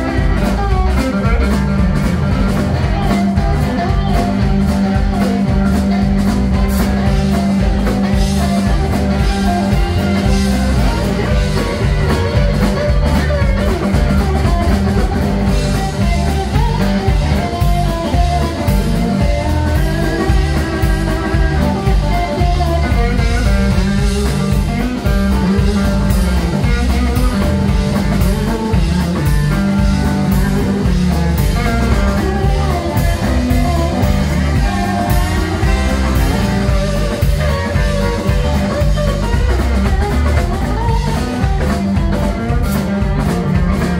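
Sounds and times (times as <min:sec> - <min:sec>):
bass guitar: 0:00.0 - 0:43.9
drum kit: 0:00.0 - 0:43.9
electric guitar: 0:00.0 - 0:43.9.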